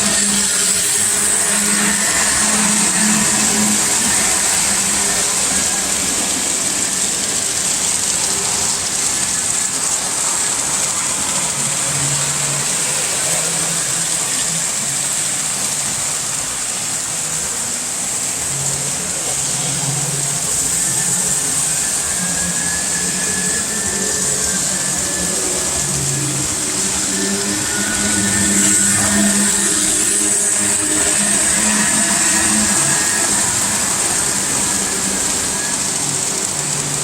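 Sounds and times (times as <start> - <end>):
model train rolling on track: 0.0 - 37.0.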